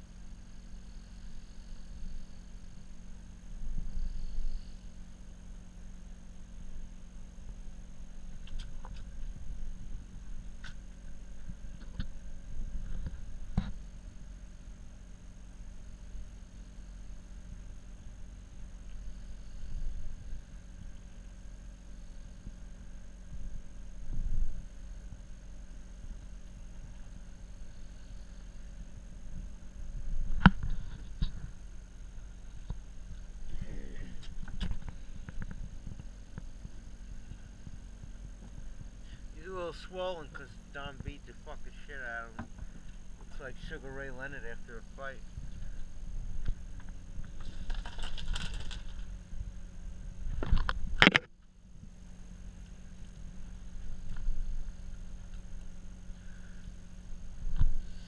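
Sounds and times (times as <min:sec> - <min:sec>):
boat engine humming: 0:00.0 - 0:48.0
low steady rumble: 0:00.0 - 0:58.0.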